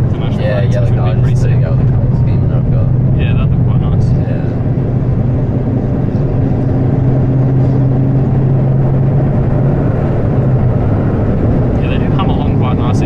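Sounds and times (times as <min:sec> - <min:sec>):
car engine drone: 0:00.0 - 0:13.0
tyre and road rumble: 0:00.0 - 0:13.0.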